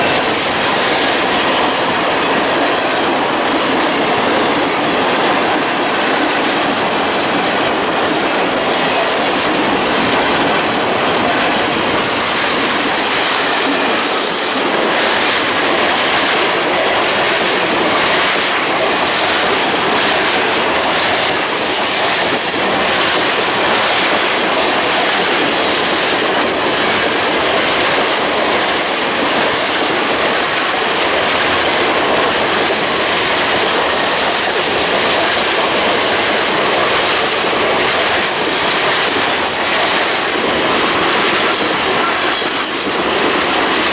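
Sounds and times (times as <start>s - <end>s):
train wheels rushing on rail: 0.0s - 43.9s
wheels clicking over rail joints: 0.0s - 43.9s.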